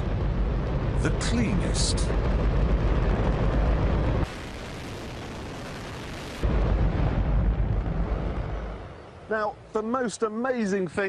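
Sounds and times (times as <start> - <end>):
rocket engine roaring: 0.0 - 9.3.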